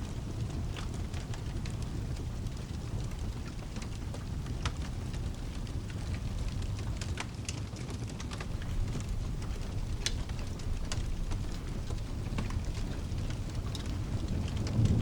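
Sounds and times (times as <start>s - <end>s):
rain rumble: 0.0s - 15.0s
sharp crackles: 0.0s - 15.0s.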